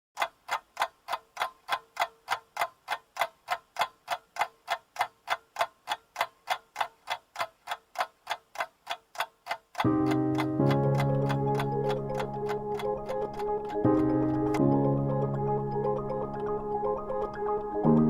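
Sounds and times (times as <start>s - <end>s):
clock ticking: 0.2s - 18.0s.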